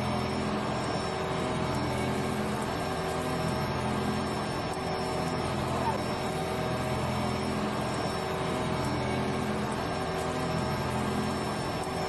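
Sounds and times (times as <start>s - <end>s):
cutting machine humming: 0.0s - 12.0s.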